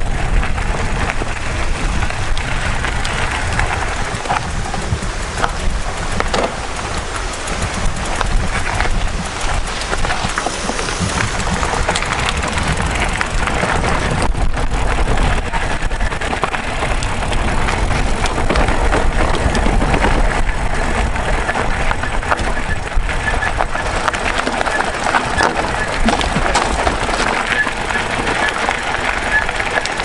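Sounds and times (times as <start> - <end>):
bike rattling over stones: 0.0 - 30.0
bike tyres on gravel: 0.0 - 30.0
wind on microphone: 0.0 - 30.0.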